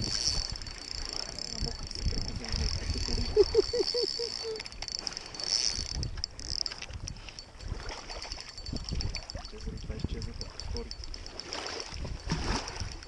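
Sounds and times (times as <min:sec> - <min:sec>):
fishing reel cranking: 0:00.0 - 0:13.0
reel squeaks: 0:00.0 - 0:13.0
water splashes: 0:00.0 - 0:13.0.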